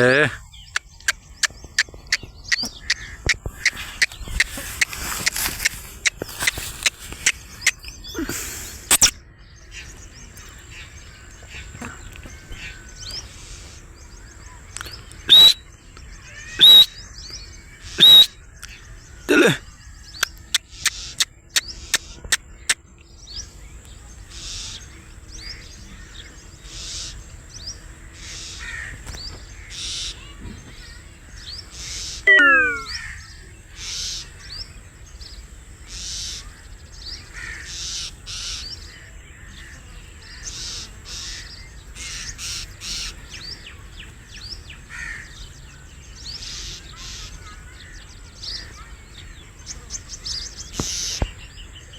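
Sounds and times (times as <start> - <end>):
francolin harsh calls: 0.0 - 22.8, 24.2 - 34.6, 35.8 - 43.9, 46.3 - 51.6
other birds calling: 0.0 - 51.9.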